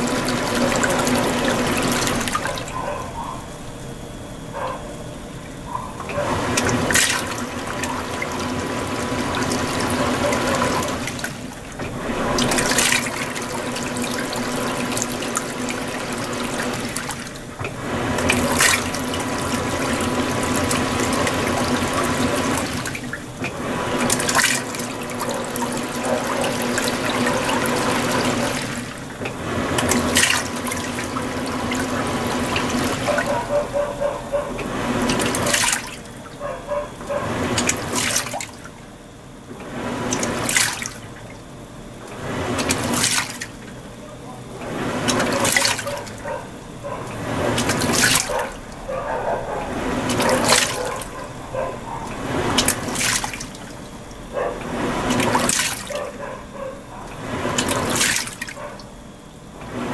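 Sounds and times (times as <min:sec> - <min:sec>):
faint hum: 0:00.0 - 0:59.9
washing machine sloshing water: 0:00.0 - 0:59.9.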